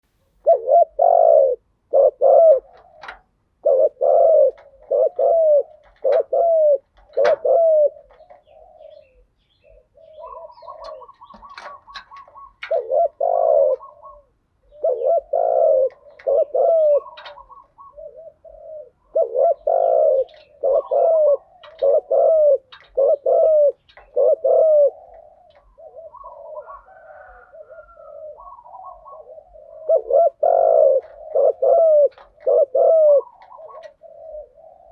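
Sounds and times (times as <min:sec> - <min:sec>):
doves cooing: 0:00.0 - 0:34.9.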